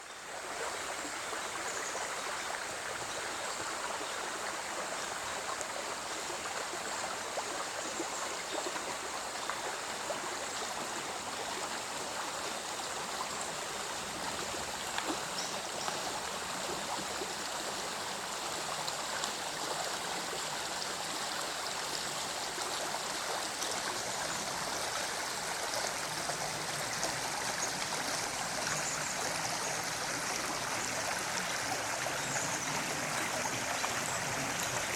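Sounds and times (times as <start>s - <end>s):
stream of water flowing: 0.0s - 34.9s.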